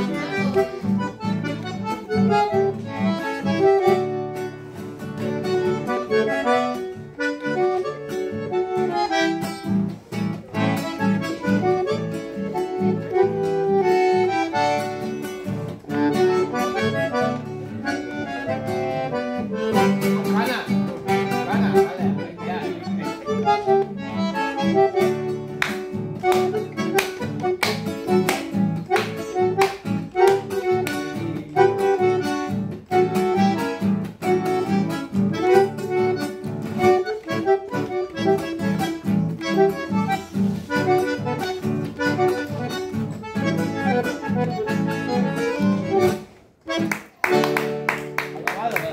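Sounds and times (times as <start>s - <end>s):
bandoneon melody: 0.0s - 48.4s
acoustic guitar strumming chords: 0.0s - 48.9s.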